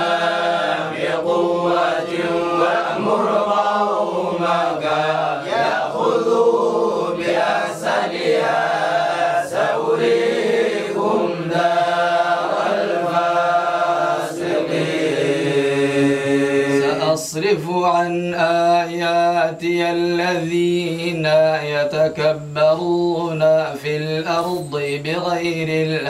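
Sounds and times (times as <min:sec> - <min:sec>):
men chanting in unison: 0:00.0 - 0:26.0.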